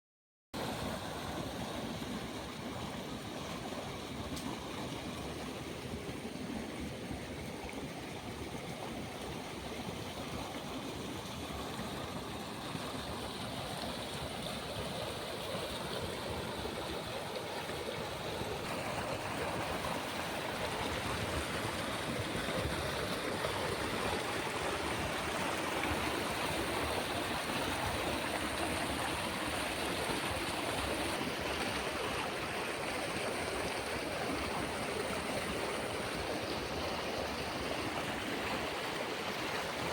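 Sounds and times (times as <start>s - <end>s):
stream water flowing: 0.6s - 39.9s.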